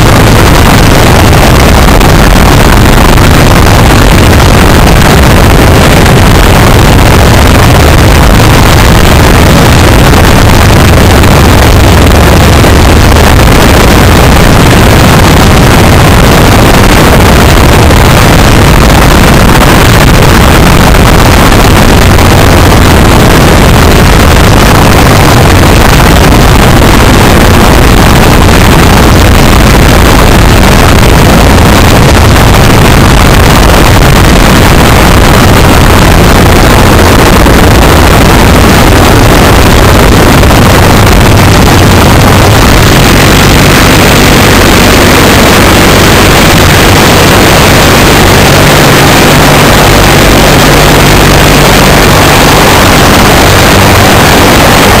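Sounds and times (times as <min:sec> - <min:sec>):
ultralight engine and propeller: 0:00.0 - 0:55.0.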